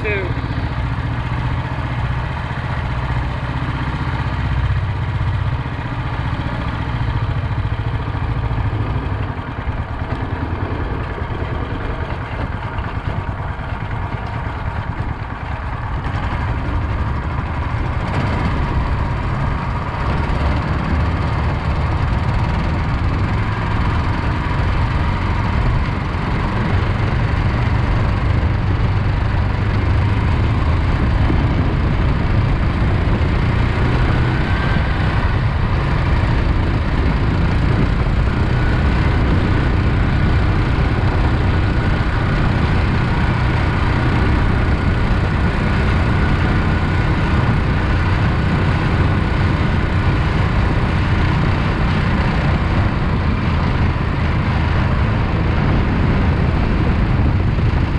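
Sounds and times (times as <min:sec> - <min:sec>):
mud motor engine running loudly: 0:00.0 - 0:57.9.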